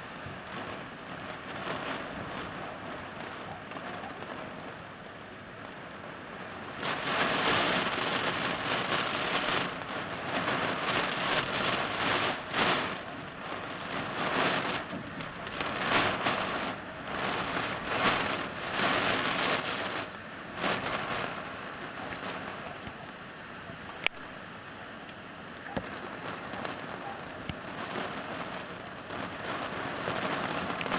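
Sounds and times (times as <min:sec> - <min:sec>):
gusting wind: 0:00.0 - 0:30.9
heavy rain: 0:00.0 - 0:30.9.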